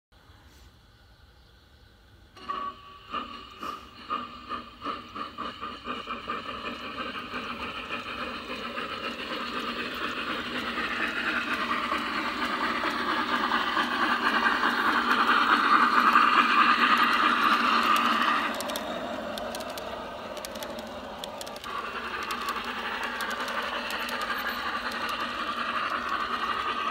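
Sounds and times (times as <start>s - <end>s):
model train rattling: 2.3s - 26.9s
rhythmic ticking: 4.2s - 26.9s.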